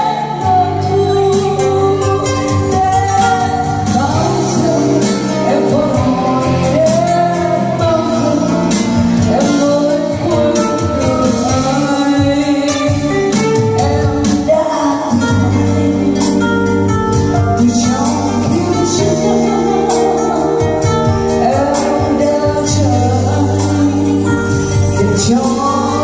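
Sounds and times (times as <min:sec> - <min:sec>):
woman singing into a microphone: 0:00.0 - 0:26.0.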